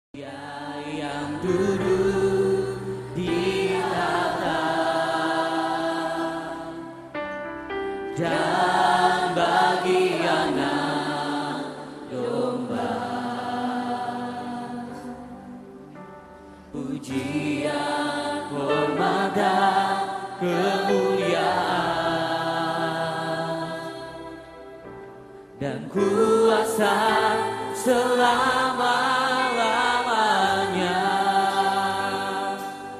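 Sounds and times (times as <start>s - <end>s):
worship music with voices singing: 0.2s - 32.9s.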